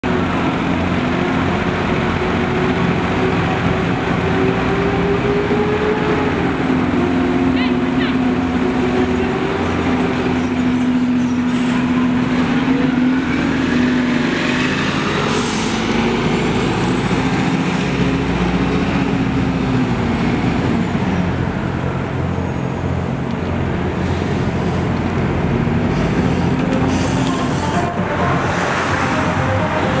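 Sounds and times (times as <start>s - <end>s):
city traffic: 0.0s - 30.0s
diesel bus driving past: 0.1s - 30.0s.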